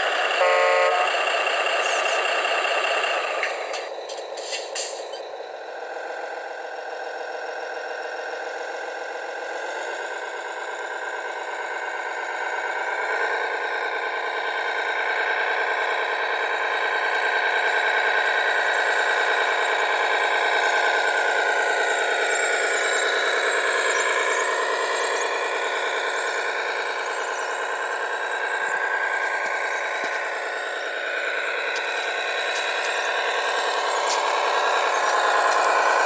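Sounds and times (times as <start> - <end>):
simulated diesel engine sound: 0.0 - 36.0.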